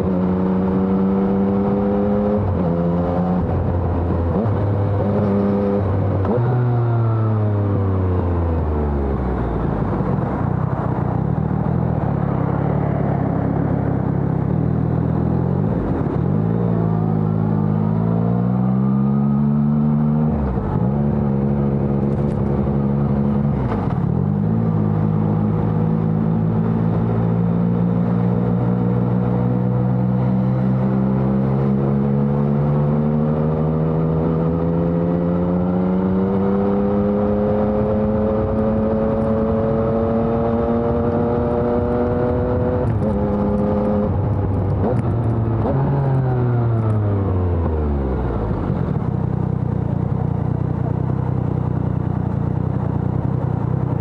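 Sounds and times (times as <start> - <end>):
motorcycle engine revving: 9.9 - 54.0.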